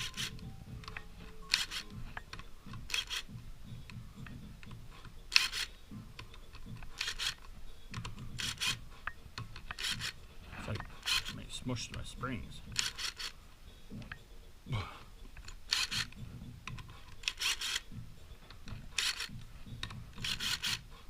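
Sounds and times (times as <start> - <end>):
hand ratchet clicking: 0.0 - 13.4, 15.3 - 20.9
tools and parts rubbing: 0.0 - 14.3, 15.2 - 21.0.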